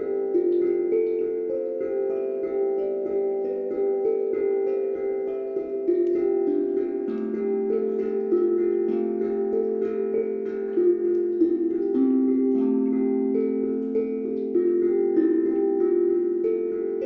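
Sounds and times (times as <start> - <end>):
calm bell-like instrumental music: 0.0 - 17.0.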